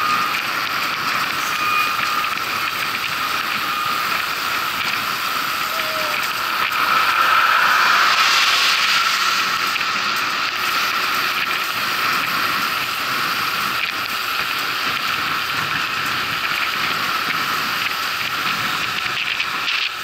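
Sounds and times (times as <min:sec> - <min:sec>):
bicycle freewheel ticking: 0:00.0 - 0:20.0
tyre and road noise: 0:00.0 - 0:20.0.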